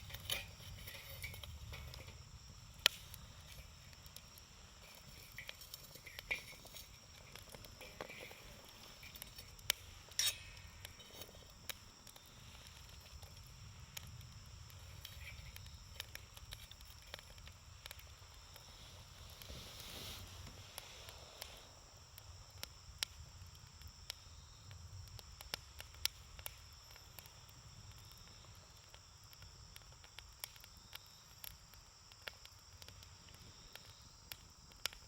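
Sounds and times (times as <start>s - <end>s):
campfire crackling: 0.0s - 35.0s
sharp pops from fire: 0.0s - 35.0s.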